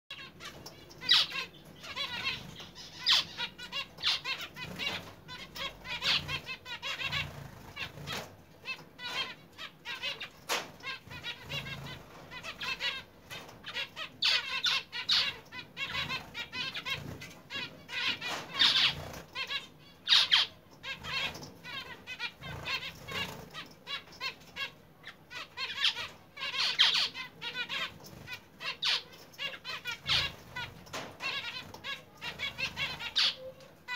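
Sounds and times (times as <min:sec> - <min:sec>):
finches calling: 0:00.1 - 0:33.9.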